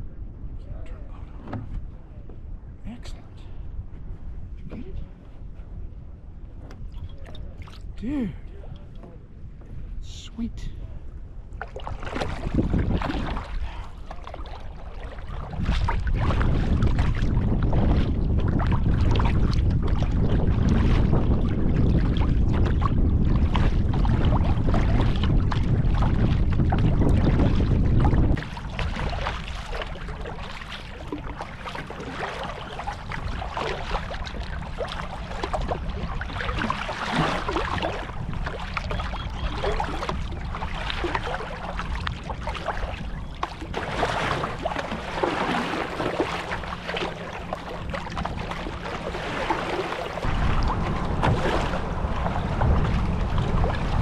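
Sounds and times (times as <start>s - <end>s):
wind buffeting the microphone: 0.0s - 54.0s
water slapping a kayak hull: 1.0s - 2.7s, 3.8s - 10.0s, 11.4s - 54.0s
paddle blades splashing: 4.0s - 54.0s.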